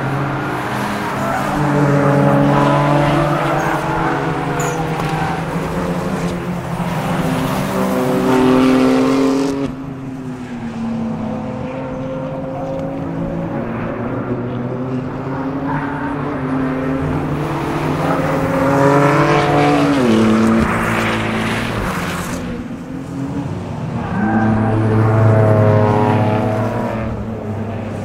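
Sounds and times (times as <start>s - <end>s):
race car engine passing: 0.0s - 28.0s.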